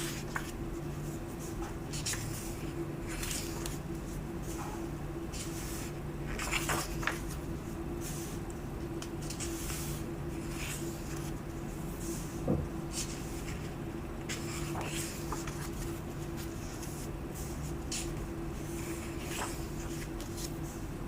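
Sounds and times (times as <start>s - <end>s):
book pages turning: 0.0s - 0.6s, 1.3s - 4.6s, 5.4s - 8.4s, 9.0s - 12.3s, 12.9s - 20.8s
steady low hum: 0.0s - 21.0s.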